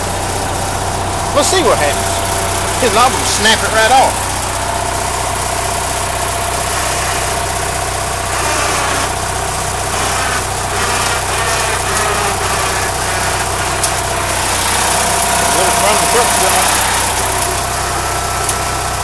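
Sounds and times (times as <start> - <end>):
small truck engine idling: 0.0 - 19.0.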